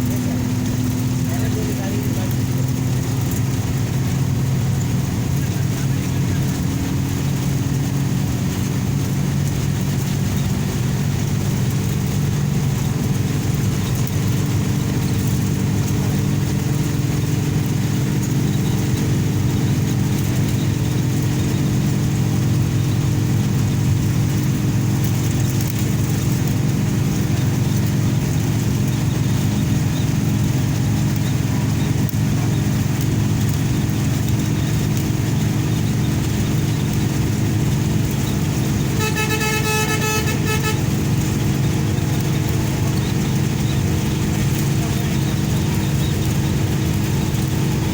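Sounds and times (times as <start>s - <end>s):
road and tyre noise: 0.0s - 47.9s
vehicle engine drone: 0.0s - 47.9s.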